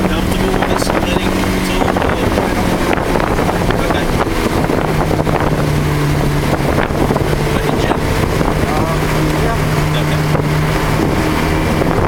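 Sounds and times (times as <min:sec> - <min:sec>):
car engine running: 0:00.0 - 0:12.0
wind and road noise: 0:00.0 - 0:12.0.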